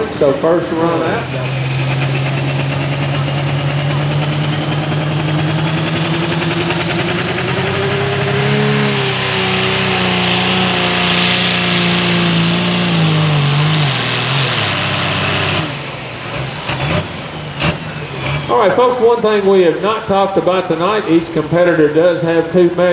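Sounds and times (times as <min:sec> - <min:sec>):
turbo whine: 0:00.0 - 0:19.1
diesel engine under load: 0:00.0 - 0:22.9.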